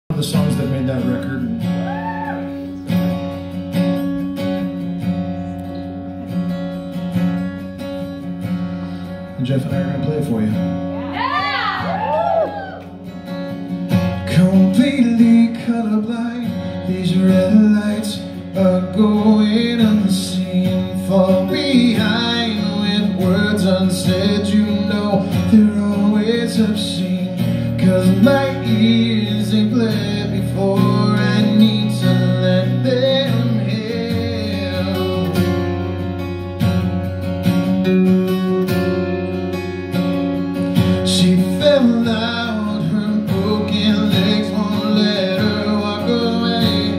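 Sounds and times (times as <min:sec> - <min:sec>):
acoustic guitar strumming chords: 0:00.1 - 0:46.9.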